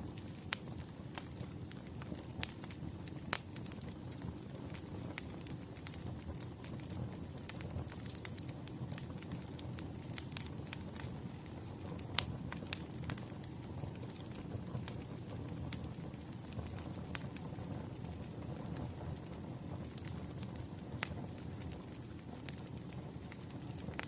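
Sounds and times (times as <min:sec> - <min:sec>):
low steady fire rumble: 0:00.0 - 0:24.0
wood logs crackling and popping: 0:00.0 - 0:24.0.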